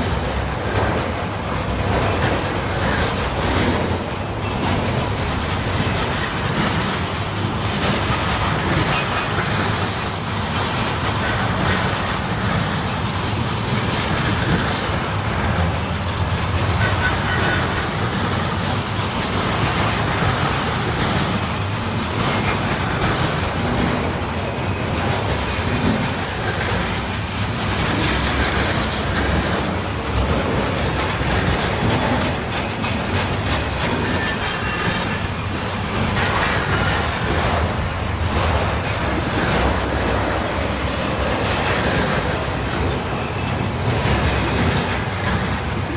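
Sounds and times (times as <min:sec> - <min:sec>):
freight train rumbling past: 0:00.0 - 0:45.9
wheels clacking over rail joints: 0:00.0 - 0:45.9.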